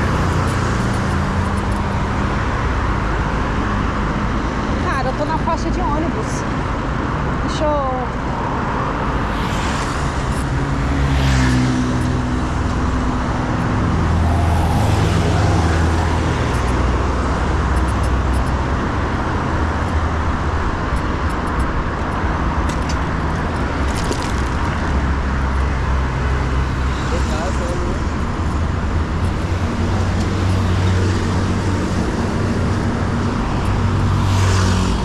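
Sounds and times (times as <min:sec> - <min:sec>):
road noise rushing: 0:00.0 - 0:35.0
vehicle engines passing: 0:00.0 - 0:35.0.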